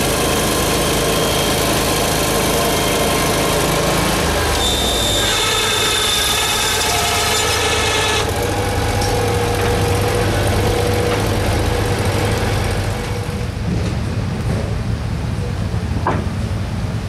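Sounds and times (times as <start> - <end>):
band sawmill engine running: 0.0 - 17.0.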